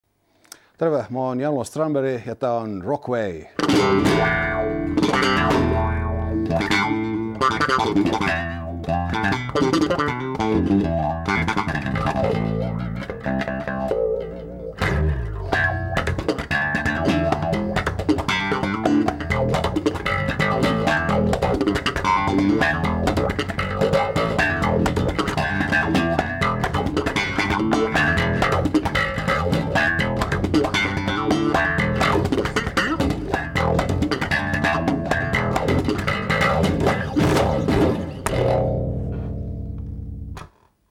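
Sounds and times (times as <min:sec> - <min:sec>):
electric bass guitar plucked: 0:03.4 - 0:40.8.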